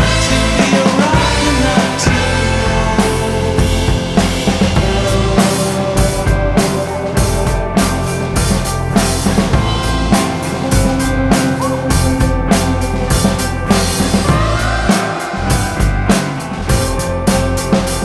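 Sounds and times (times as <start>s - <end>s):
drum kit beat: 0.0s - 18.0s.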